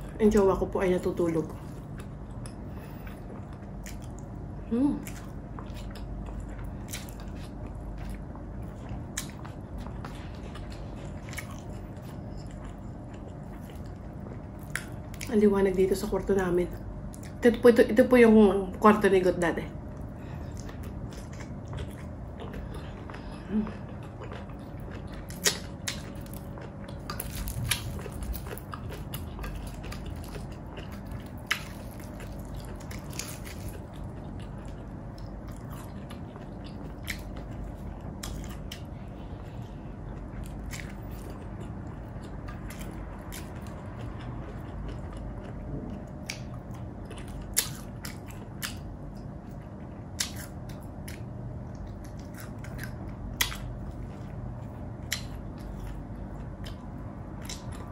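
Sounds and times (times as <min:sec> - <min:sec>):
steady low hum: 0:00.0 - 0:57.9
person chewing food: 0:01.5 - 0:15.3, 0:19.8 - 0:57.9.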